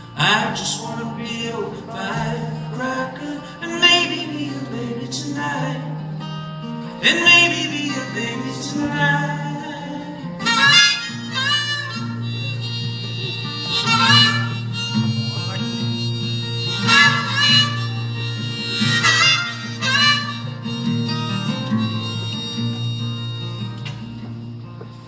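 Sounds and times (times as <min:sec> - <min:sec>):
harmonica solo: 0:00.0 - 0:24.8
guitar accompaniment: 0:00.0 - 0:25.0.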